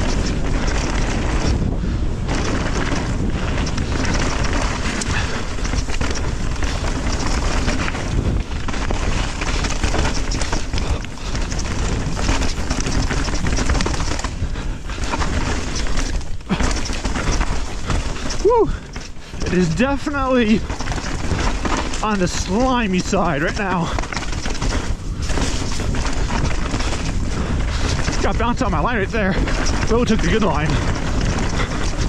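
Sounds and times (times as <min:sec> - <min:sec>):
bike rattling: 0:00.0 - 0:32.0
tyres rolling over dirt and rocks: 0:00.0 - 0:32.0
wind rushing over microphone: 0:00.0 - 0:32.0.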